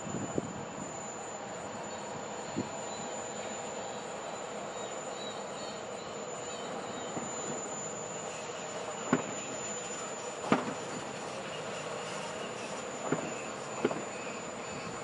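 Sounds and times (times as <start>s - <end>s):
distant diesel train rumble: 0.0s - 15.0s.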